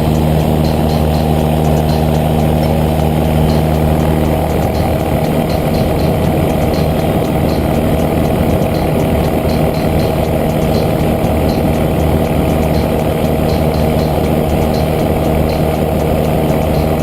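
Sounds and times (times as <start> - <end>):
motor running steadily: 0.0 - 17.0.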